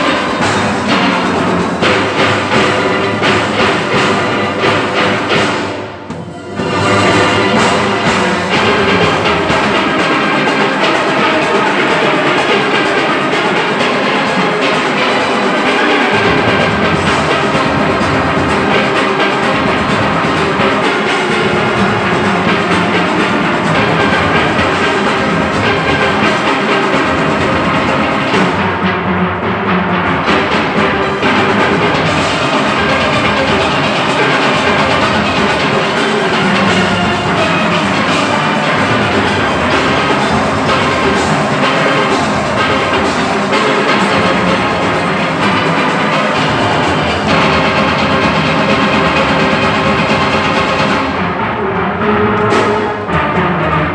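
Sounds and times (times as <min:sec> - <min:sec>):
drums and percussion: 0:00.0 - 0:53.9
steelpans playing: 0:00.0 - 0:53.9.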